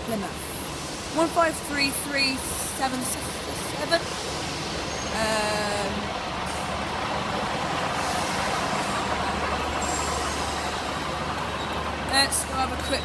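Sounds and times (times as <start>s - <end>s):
diesel engines humming: 0.0s - 13.0s
train rushing: 0.0s - 13.0s.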